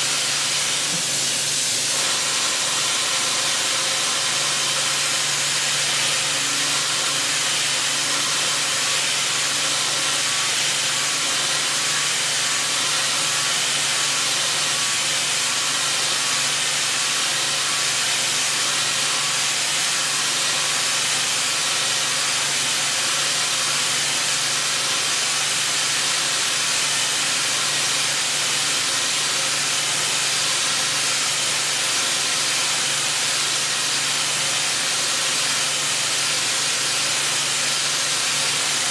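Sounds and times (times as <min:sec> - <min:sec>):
milling machine hissing: 0:00.0 - 0:38.9.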